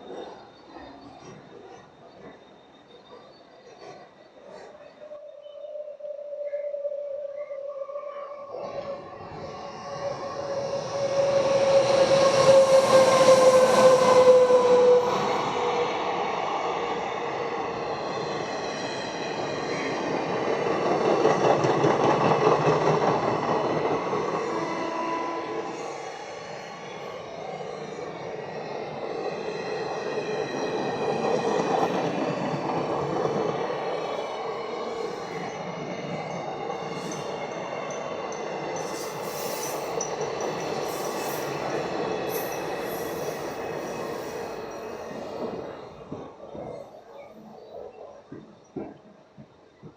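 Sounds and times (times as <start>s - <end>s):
train passing at speed: 0.0s - 49.9s.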